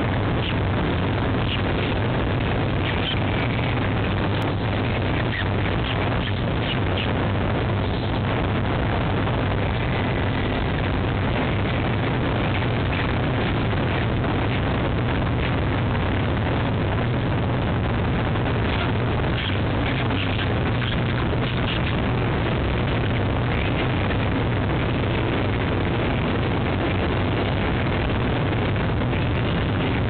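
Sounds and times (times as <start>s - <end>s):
city traffic rumble: 0.0s - 30.0s
low hum: 0.0s - 30.0s.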